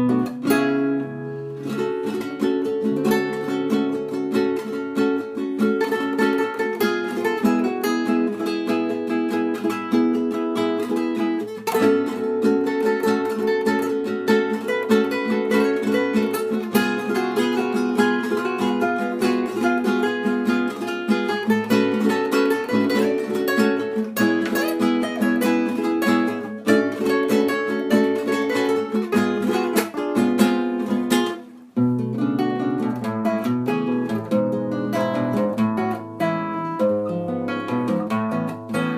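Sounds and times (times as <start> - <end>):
strummed and plucked string music: 0.0 - 38.9.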